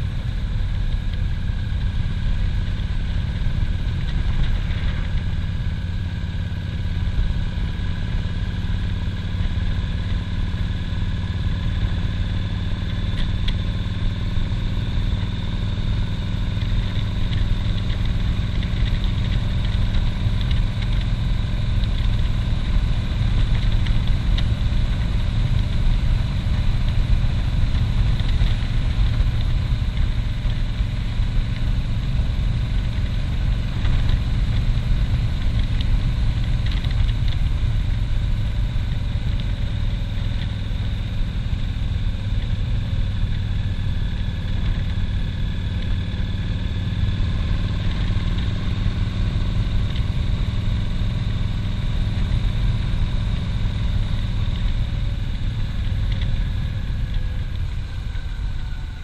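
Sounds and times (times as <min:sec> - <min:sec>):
faint steady whine: 0:00.0 - 0:59.0
motorcycle engine rumble: 0:00.0 - 0:59.0.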